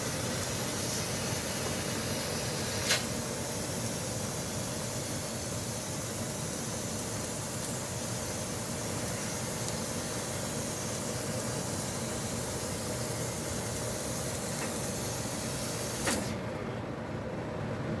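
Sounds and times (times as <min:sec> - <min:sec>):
gas jet hissing: 0:00.0 - 0:16.4.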